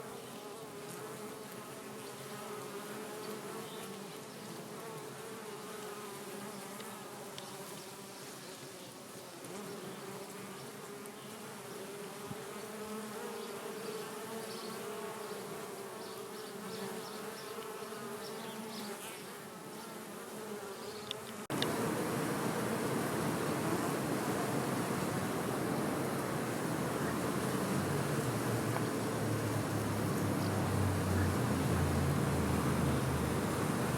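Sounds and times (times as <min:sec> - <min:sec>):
bees buzzing: 0:00.0 - 0:33.9.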